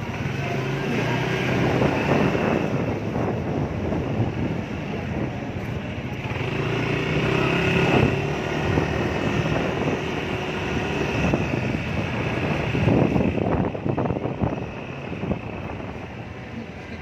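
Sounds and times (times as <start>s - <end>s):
scooter engine running: 0.0s - 17.0s
wind and road noise: 0.0s - 17.0s.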